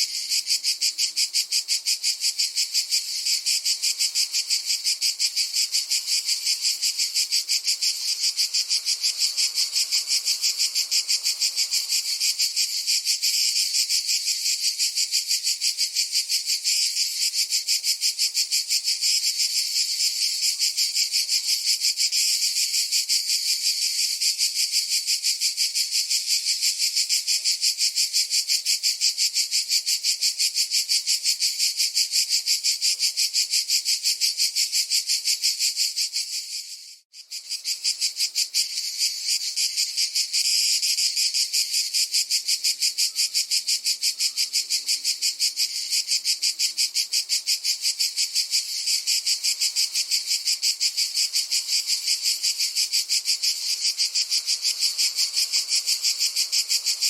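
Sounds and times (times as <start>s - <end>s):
cicada chorus buzzing: 0.0s - 57.0s.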